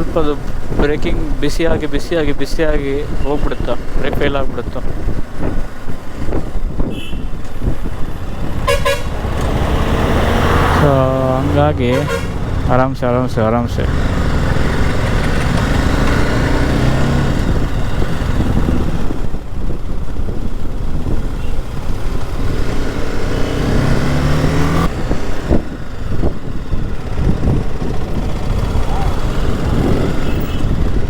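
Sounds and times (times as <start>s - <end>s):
wind rush: 0.6s - 31.0s
motorcycle engine running: 4.8s - 31.0s.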